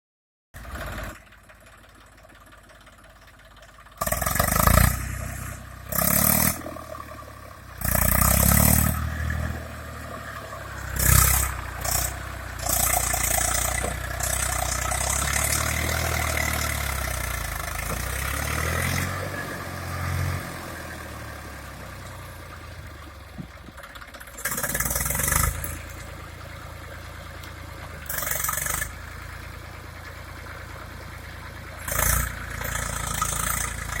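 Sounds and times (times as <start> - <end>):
tractor diesel engine revving: 0.6 - 34.0.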